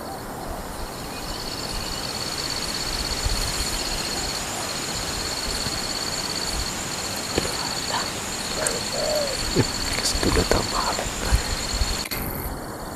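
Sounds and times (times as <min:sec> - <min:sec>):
fainter higher insect trill: 0:00.0 - 0:12.9
insects trilling: 0:00.0 - 0:12.9
steady hiss: 0:00.0 - 0:12.9.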